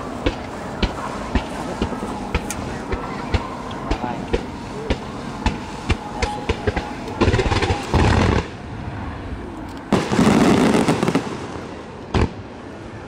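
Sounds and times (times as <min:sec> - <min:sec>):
fireworks bangs and crackling: 0:00.0 - 0:08.6, 0:09.9 - 0:12.7.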